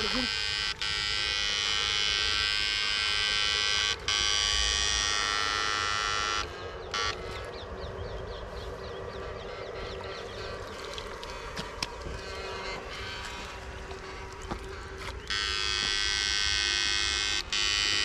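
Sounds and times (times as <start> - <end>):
electrofishing unit buzzing: 0.0 - 18.0.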